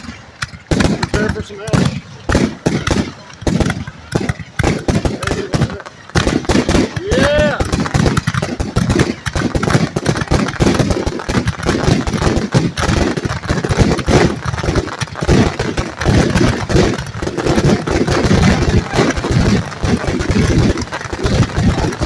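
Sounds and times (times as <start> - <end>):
fireworks exploding rapidly: 0.0 - 22.0.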